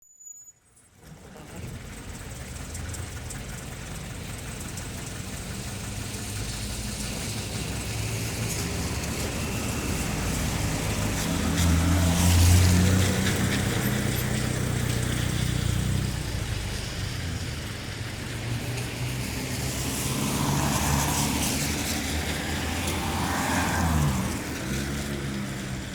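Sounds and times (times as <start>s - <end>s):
engine hum: 0.7s - 25.9s
tyres hissing on wet asphalt: 1.0s - 25.9s.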